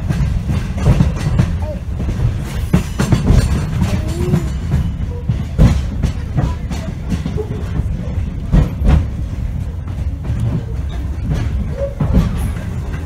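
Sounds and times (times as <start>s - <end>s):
train coach rumbling on track: 0.0s - 13.0s
wheels and couplings knocking: 0.0s - 13.0s.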